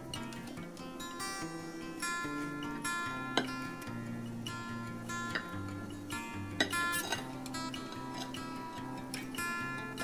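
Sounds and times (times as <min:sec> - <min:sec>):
picked acoustic guitar music: 0:00.0 - 0:10.0.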